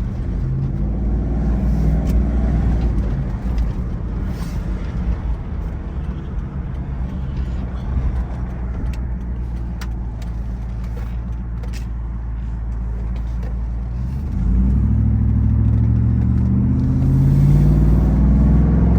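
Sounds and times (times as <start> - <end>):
car engine through loud exhaust: 0.0 - 18.9.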